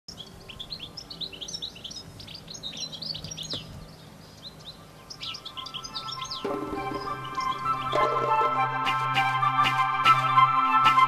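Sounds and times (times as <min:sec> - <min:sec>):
songbirds chirping and twittering: 0:00.1 - 0:11.0.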